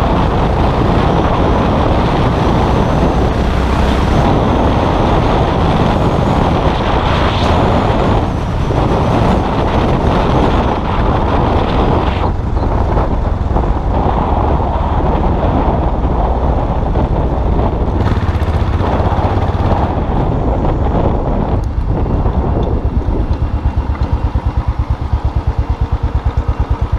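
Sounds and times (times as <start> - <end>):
motorcycle engine running: 0.0 - 26.9
road noise: 0.0 - 26.9
wind noise: 0.0 - 26.9.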